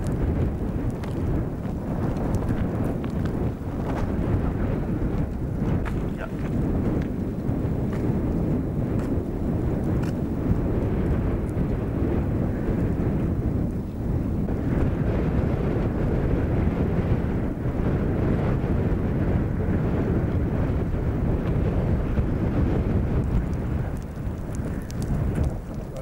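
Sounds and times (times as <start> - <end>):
brush burning low rumble: 0.0 - 26.0.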